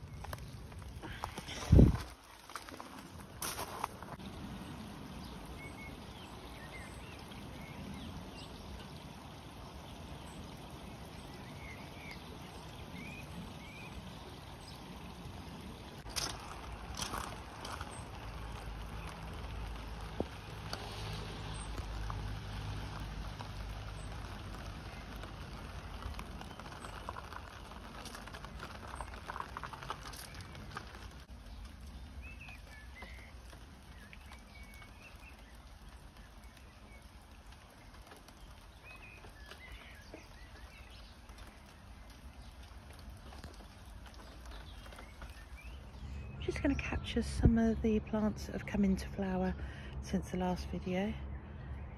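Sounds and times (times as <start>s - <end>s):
steady rain: 0.0s - 47.4s
birds chirping: 0.0s - 48.4s
water running from gutter spout: 0.0s - 49.8s.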